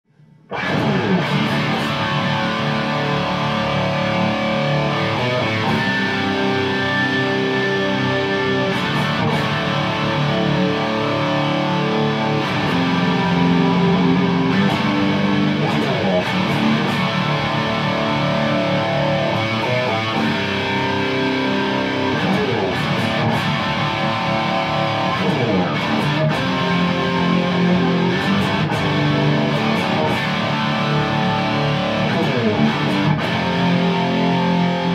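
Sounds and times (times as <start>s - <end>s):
electric guitar chords and riffs: 0.2s - 34.9s.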